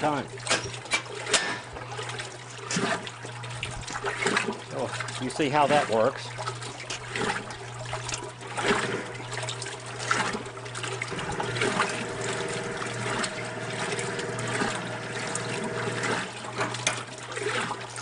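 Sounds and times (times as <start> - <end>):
washing machine motor hum: 0.0 - 18.0
water sloshing and trickling: 0.0 - 18.0.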